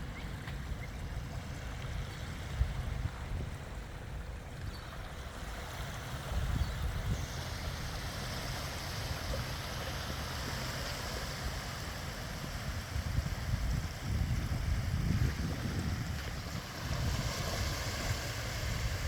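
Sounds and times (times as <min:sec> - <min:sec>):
wind buffeting microphone: 0:00.0 - 0:04.8, 0:05.5 - 0:10.1, 0:12.4 - 0:19.0
sea water washing on shore: 0:00.0 - 0:19.0.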